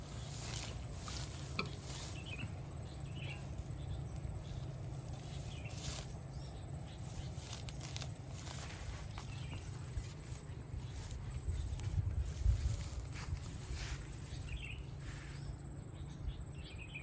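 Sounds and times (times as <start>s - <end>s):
rustles and clicks: 0.0s - 15.5s
steady low rumble: 0.0s - 17.0s.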